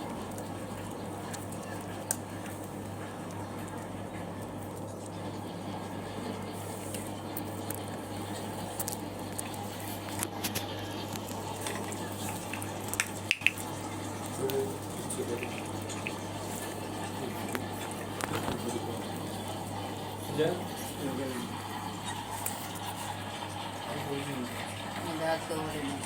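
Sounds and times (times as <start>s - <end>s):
cats chewing wet food: 0.0s - 26.0s.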